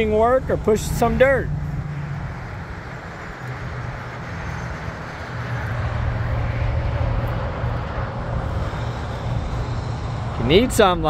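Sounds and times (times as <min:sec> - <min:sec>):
low engine hum: 0:00.0 - 0:11.0
rushing noise: 0:00.0 - 0:11.0.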